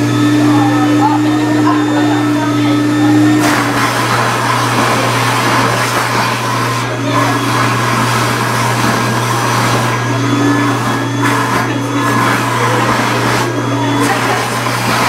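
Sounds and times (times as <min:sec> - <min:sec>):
stuffing machine blower noise: 0:00.0 - 0:15.0.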